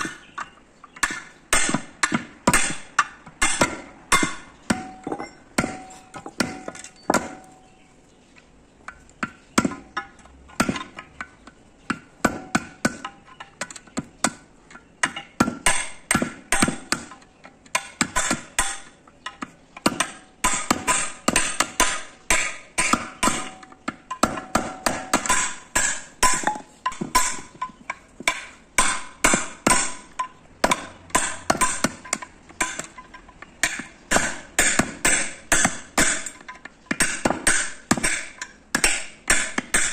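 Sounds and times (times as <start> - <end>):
hammer striking steel chisel: 0.0 - 7.6, 15.0 - 39.9.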